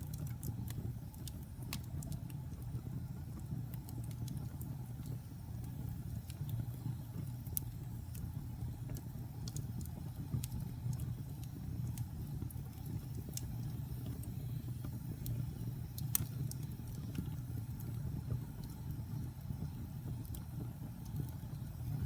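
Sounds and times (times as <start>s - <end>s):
low rumble of fire: 0.0s - 22.0s
wood fire crackling and popping: 0.0s - 22.0s.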